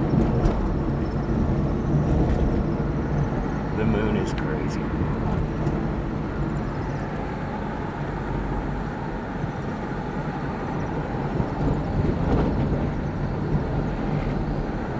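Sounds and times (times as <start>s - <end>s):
low engine drone: 0.0s - 14.9s.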